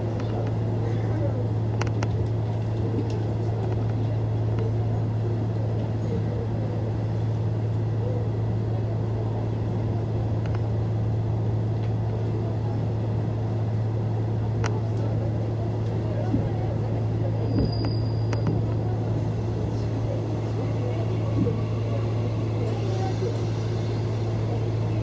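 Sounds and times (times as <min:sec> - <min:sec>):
electric train hum and rumble: 0:00.0 - 0:25.0.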